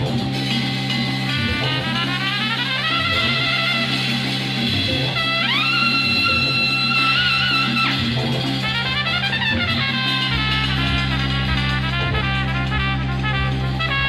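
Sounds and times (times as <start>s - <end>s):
bass line: 0.0s - 14.0s
horn long held note: 0.0s - 14.0s
jazz-rock band music: 0.0s - 14.0s.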